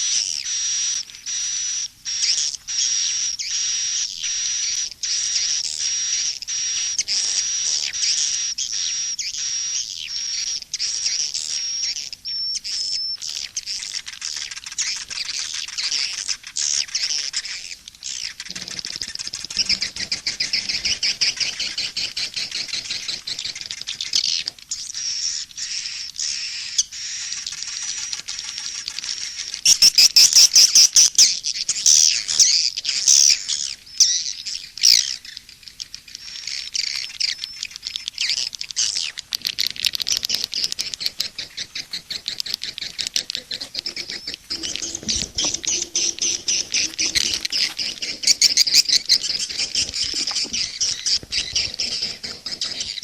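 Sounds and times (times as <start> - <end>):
swiftlet calls twittering: 0.1 - 53.0.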